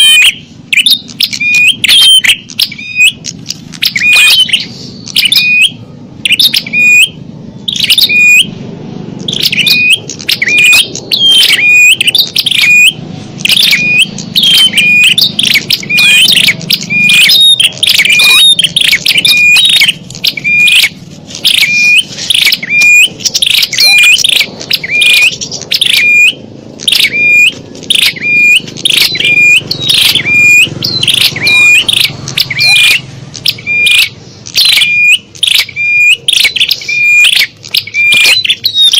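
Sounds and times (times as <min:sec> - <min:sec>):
bird lure chirp: 0:00.0 - 0:08.6, 0:09.2 - 0:38.9.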